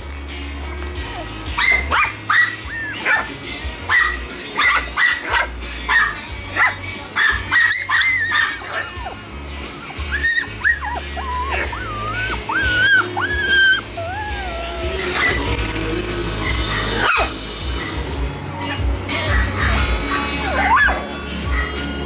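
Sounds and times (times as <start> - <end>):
background music: 0.0 - 22.0
puppies yipping and barking: 0.0 - 22.0.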